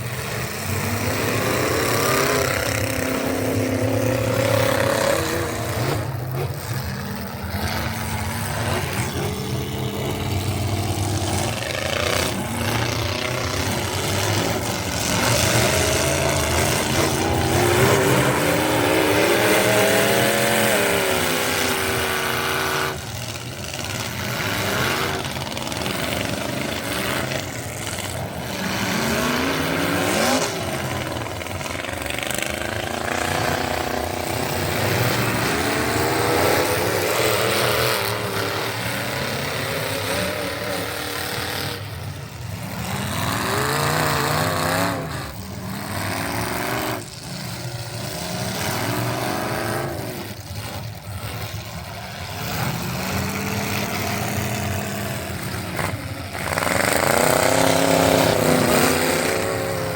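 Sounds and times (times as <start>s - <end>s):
truck engine under load: 0.0s - 59.9s.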